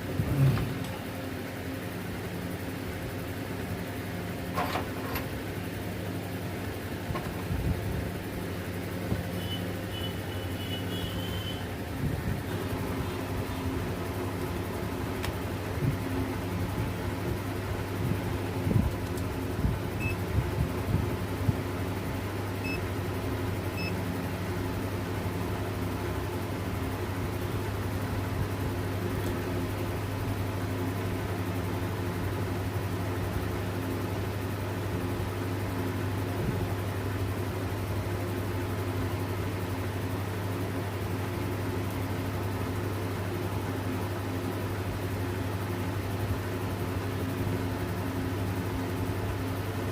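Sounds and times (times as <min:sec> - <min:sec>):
mechanical hum: 0:00.0 - 0:49.9.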